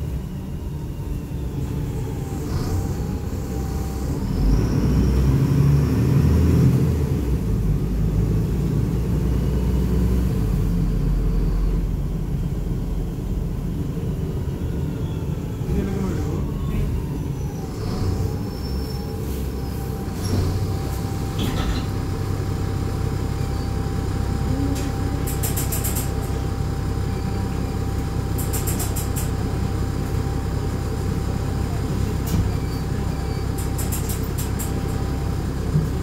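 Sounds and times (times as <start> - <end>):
bus diesel engine rumbling: 0.0 - 36.0.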